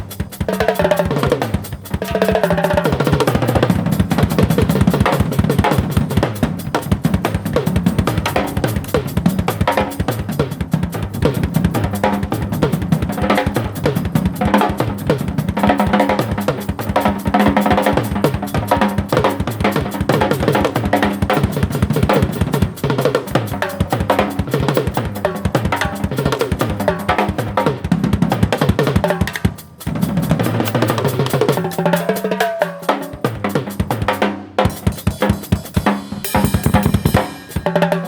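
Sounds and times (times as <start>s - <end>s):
drum kit fast beat: 0.0s - 38.0s.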